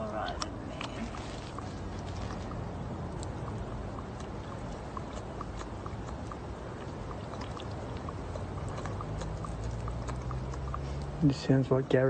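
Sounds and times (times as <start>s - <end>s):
small wet clicks: 0.0s - 11.9s
water trickling: 0.0s - 12.0s.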